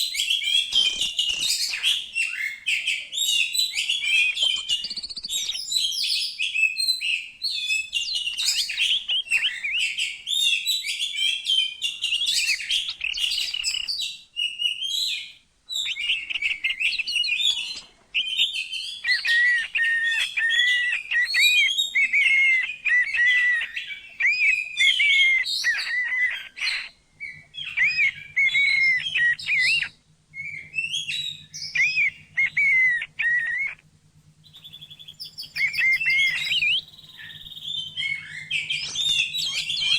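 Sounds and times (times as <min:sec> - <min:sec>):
faint low hum: 0:00.0 - 0:39.9
songbirds twittering: 0:00.0 - 0:39.9.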